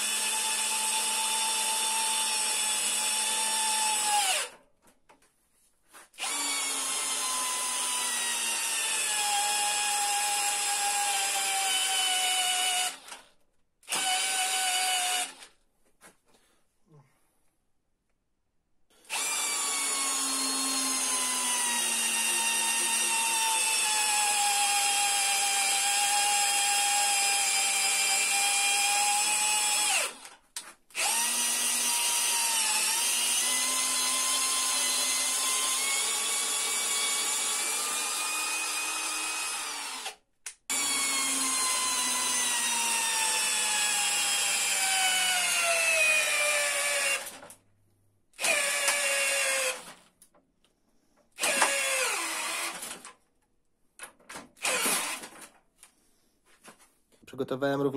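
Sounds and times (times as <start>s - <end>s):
drill driving screw into wood: 0.0s - 4.6s, 6.2s - 15.5s, 19.0s - 47.6s, 48.4s - 50.0s, 51.4s - 53.2s, 54.0s - 55.5s.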